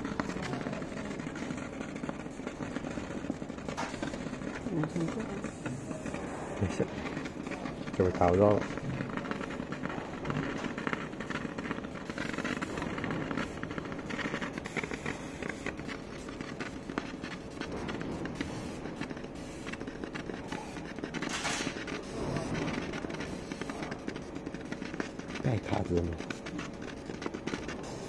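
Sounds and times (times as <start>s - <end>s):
laser engraver rapid clicking: 0.0s - 28.0s.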